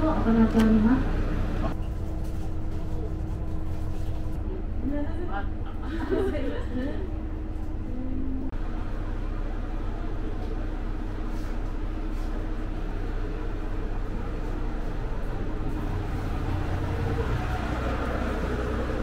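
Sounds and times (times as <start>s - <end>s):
diesel railcar engine idling: 0.0s - 19.0s.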